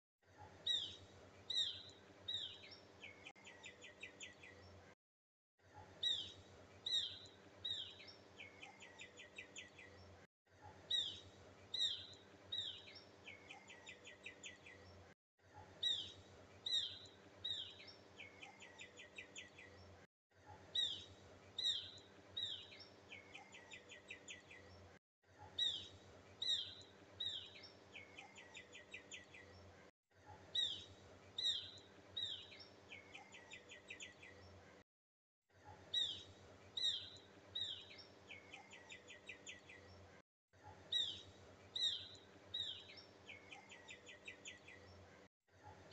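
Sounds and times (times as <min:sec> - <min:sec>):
bird chirps and trill: 0:00.5 - 0:04.8, 0:05.8 - 0:10.2, 0:10.8 - 0:15.0, 0:15.6 - 0:20.0, 0:20.6 - 0:29.7, 0:30.4 - 0:34.6, 0:35.8 - 0:40.0, 0:40.8 - 0:45.0.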